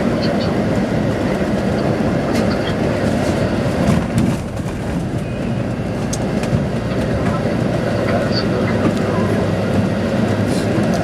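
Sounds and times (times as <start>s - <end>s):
bus engine rumble and road noise: 0.0s - 11.0s.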